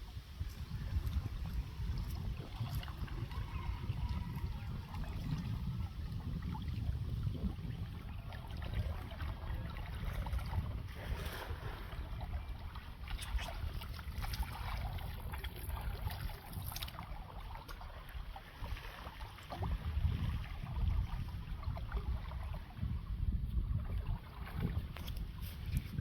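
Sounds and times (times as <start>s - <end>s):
light water splashes: 0.0s - 26.0s
wind rumbling on microphone: 0.0s - 26.0s.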